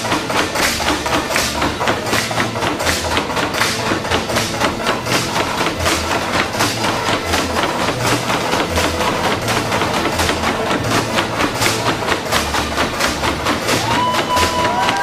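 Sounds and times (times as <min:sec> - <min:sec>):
bamboo poles clacking: 0:00.0 - 0:15.0.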